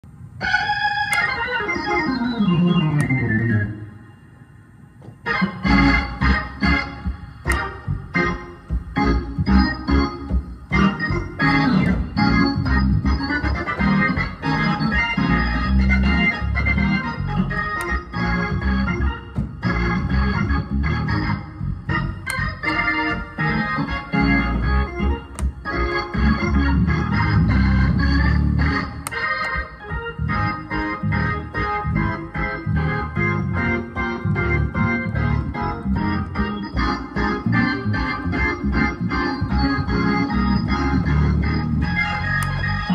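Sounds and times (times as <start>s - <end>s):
gospel keyboard playing: 0.0s - 42.9s.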